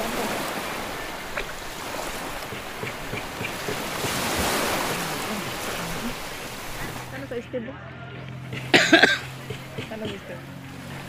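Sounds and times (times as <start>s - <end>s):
rush of water: 0.0s - 7.6s, 8.2s - 11.0s
sea water lapping: 0.0s - 11.0s.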